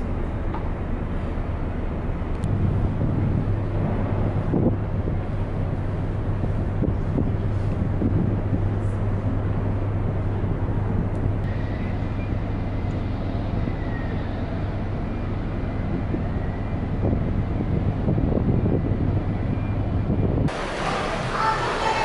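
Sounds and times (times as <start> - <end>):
ship machinery hum: 0.0 - 22.0
wind noise: 0.0 - 22.0.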